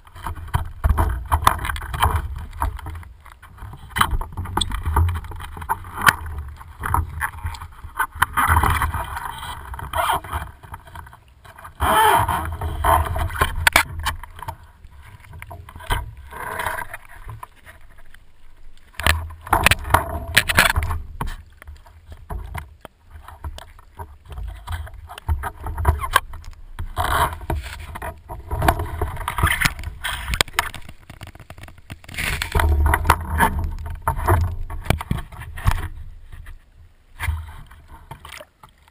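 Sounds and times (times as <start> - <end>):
water sloshing and splashing: 0.0 - 38.9.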